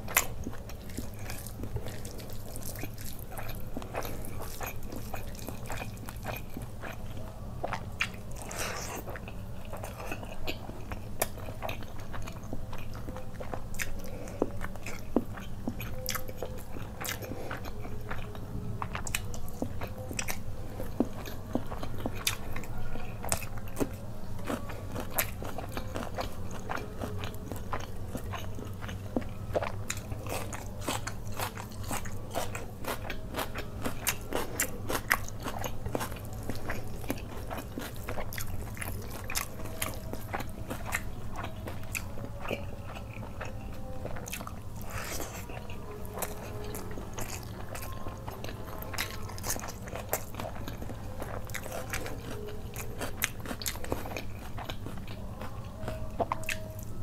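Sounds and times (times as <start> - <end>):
person chewing and crunching: 0.0 - 57.0
steady low hum: 0.0 - 57.0.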